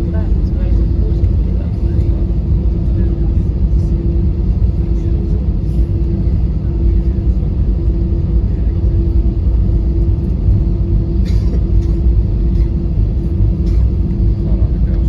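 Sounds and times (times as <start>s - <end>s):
aircraft engines idling rumble: 0.0s - 15.0s
constant hum: 0.0s - 15.0s.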